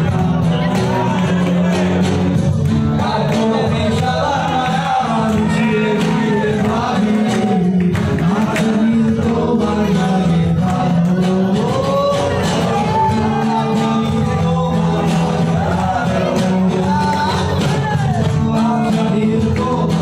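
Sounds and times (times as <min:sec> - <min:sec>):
bass guitar: 0:00.0 - 0:20.0
cajon: 0:00.0 - 0:20.0
male vocals: 0:00.0 - 0:20.0
strummed acoustic guitars: 0:00.0 - 0:20.0.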